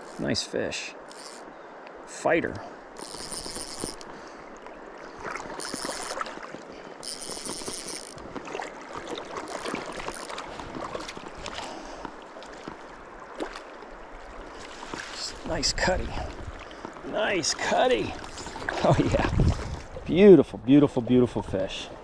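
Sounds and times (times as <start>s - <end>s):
stream water running: 0.0s - 22.0s.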